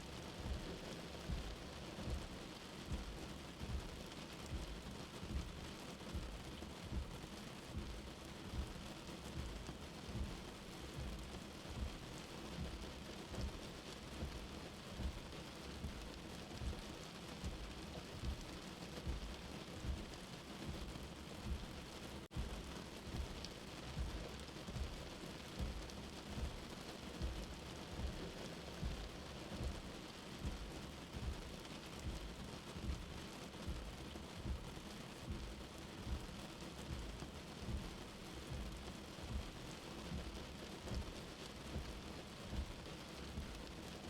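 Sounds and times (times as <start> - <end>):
steady rain: 0.0 - 44.0
low heartbeat thump: 0.4 - 43.7.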